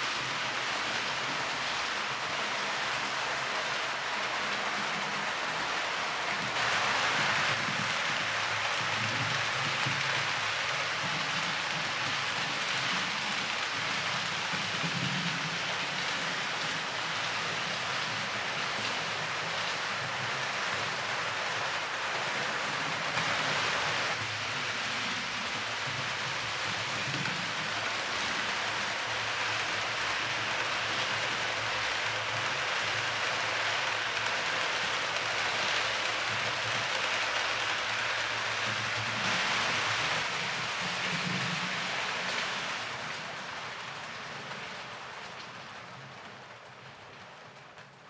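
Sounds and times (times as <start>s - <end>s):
model train wheels rattling: 0.0s - 45.5s.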